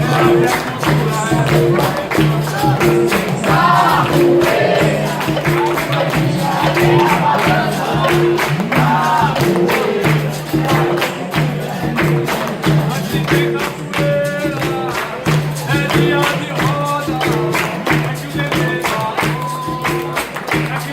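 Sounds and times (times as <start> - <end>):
chorus answering: 0.0 - 20.9
person singing: 0.0 - 20.9
tambourine beat: 0.0 - 20.9.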